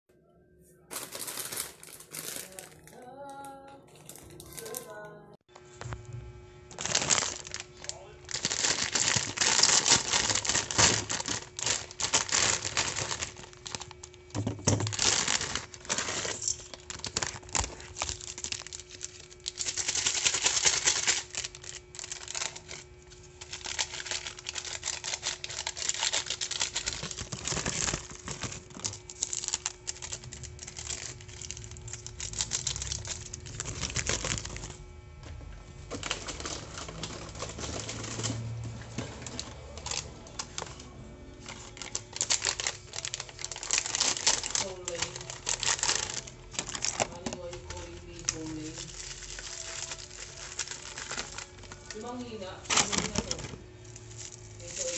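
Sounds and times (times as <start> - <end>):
plastic wrappers crinkling: 0.9 - 5.0, 6.7 - 34.8, 35.7 - 54.9.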